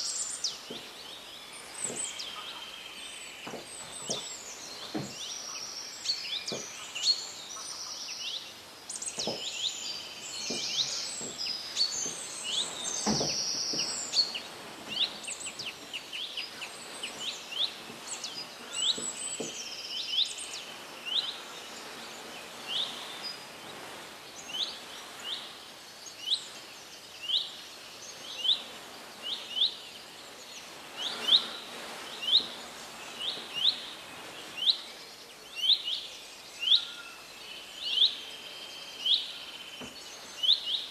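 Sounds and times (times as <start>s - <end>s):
birds singing and chirping: 0.0s - 40.9s
steady outdoor hiss: 0.0s - 40.9s.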